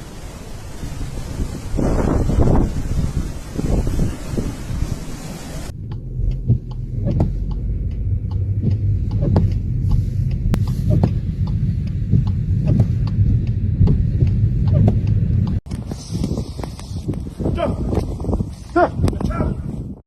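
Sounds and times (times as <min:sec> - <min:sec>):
vehicle engine rumbling: 0:00.0 - 0:19.9.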